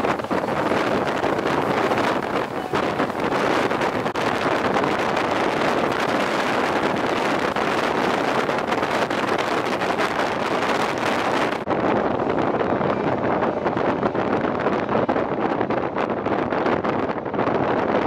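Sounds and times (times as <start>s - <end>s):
passenger train running: 0.0s - 16.8s
wind on microphone: 0.0s - 18.0s.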